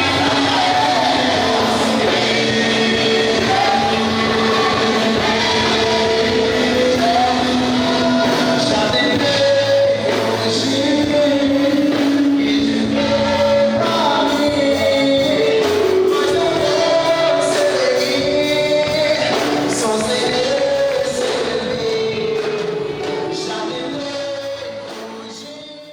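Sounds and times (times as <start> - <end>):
gospel singing: 0.0 - 25.9
instrumental accompaniment: 0.0 - 25.9.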